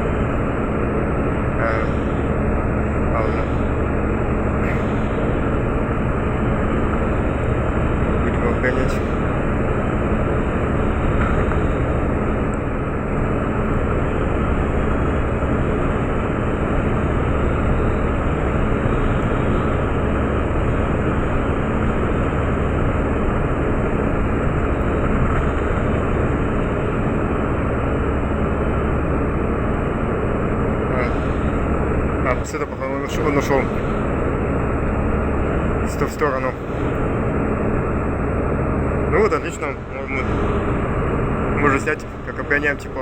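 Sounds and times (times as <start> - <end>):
constant rushing noise: 0.0 - 43.0
diesel engines droning: 0.0 - 43.0.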